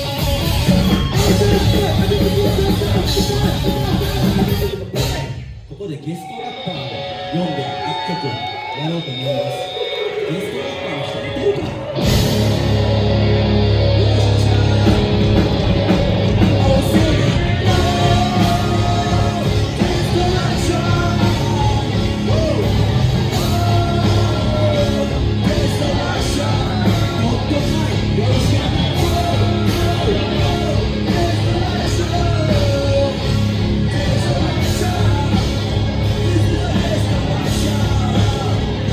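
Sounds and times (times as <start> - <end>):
rock band playing loudly: 0.0 - 38.9
vocalist singing and shouting: 0.0 - 38.9.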